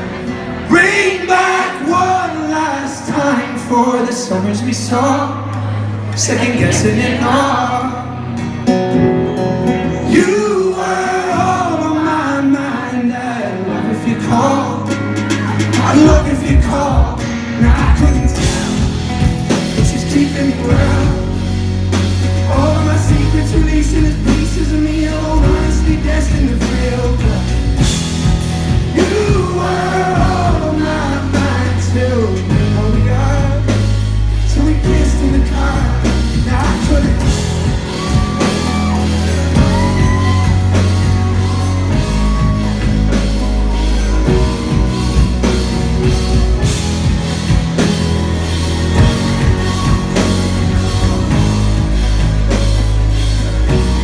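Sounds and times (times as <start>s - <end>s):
live band playing: 0.0s - 54.0s
person singing: 9.9s - 54.0s.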